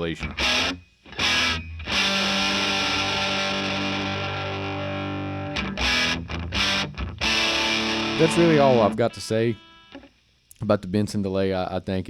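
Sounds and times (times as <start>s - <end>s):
electric guitar chord with delay: 0.4s - 10.0s.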